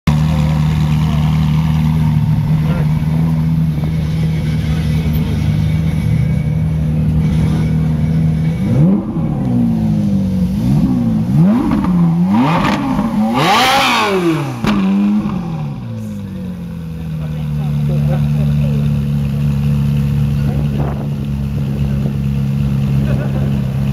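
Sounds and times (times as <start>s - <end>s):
car engine idling: 0.1s - 23.9s
engine revving in throttle blips: 0.3s - 23.9s.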